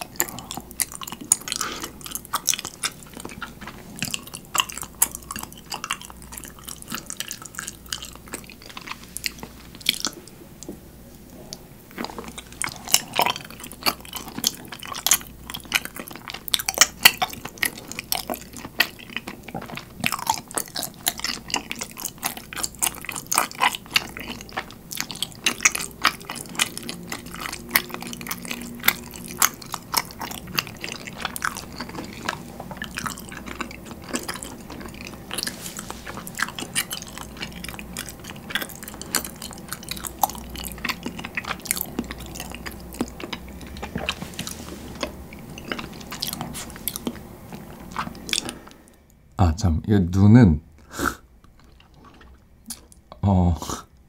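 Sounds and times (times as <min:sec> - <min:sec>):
person chewing sticky food: 0:00.0 - 0:49.2, 0:50.8 - 0:54.0.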